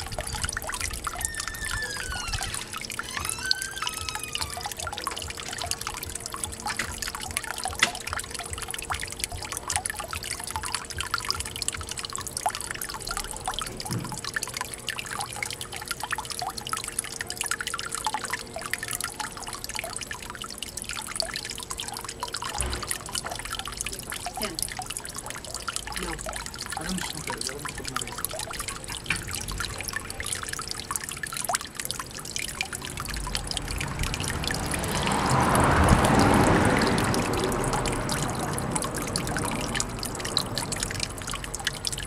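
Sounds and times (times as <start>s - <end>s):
water trickling into pond: 0.0s - 42.0s.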